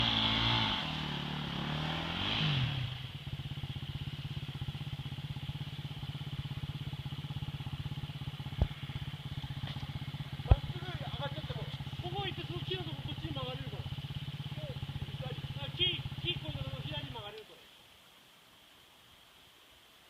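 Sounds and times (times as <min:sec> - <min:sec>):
motorcycle engine revving and idling: 0:00.0 - 0:17.4.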